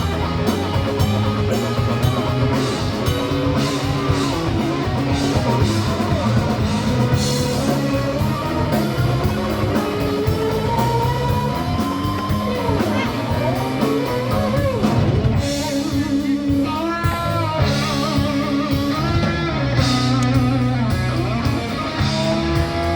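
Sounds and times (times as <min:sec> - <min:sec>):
rock band playing: 0:00.0 - 0:22.9.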